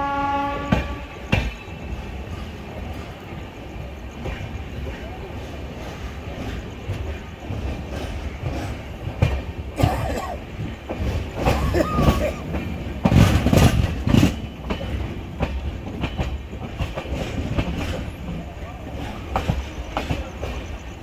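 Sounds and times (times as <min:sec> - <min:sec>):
train wheels clattering: 0:00.0 - 0:21.0.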